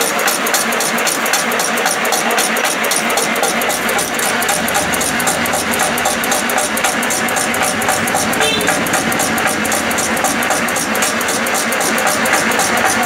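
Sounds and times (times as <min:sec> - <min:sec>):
fast even clicking: 0:00.0 - 0:13.0
machine whirring: 0:00.0 - 0:13.0.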